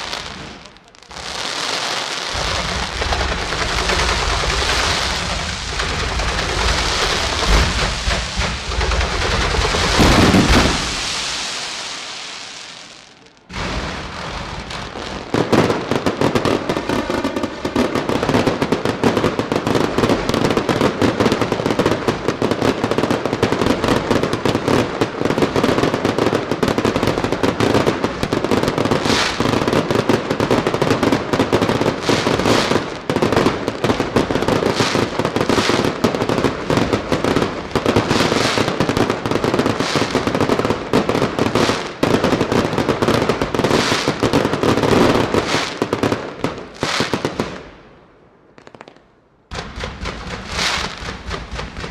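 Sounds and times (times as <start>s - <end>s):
fireworks crackling barrage: 0.0s - 51.9s.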